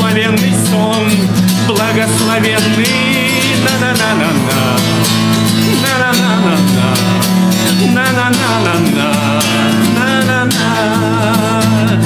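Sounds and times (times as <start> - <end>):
band with guitar and beat: 0.0 - 12.0
man singing wordless refrain: 0.0 - 12.0.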